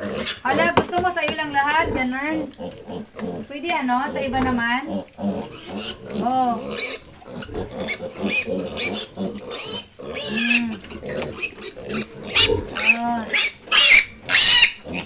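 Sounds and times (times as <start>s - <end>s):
piglets squealing and grunting: 0.0s - 15.0s.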